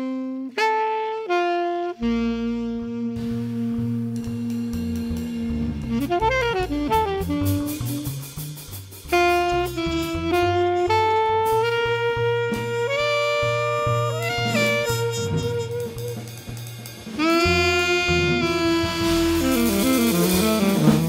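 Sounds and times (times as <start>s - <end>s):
bass and drums: 0.0s - 21.0s
saxophone lead: 0.0s - 21.0s.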